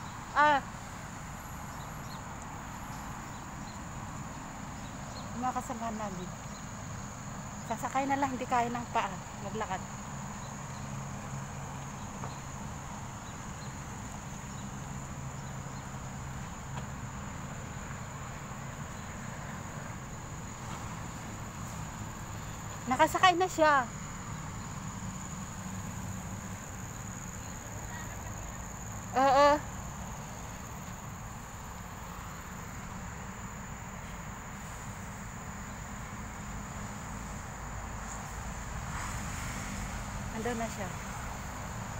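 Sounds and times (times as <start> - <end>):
crickets droning: 0.0 - 41.9.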